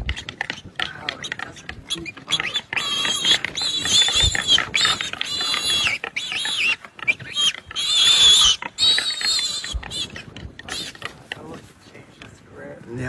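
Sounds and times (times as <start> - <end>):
animal squealing in distress: 0.0 - 11.1.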